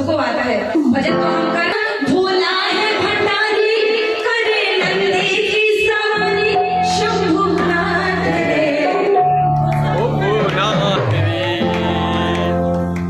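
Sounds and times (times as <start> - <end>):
devotional singing: 1.9 - 12.7.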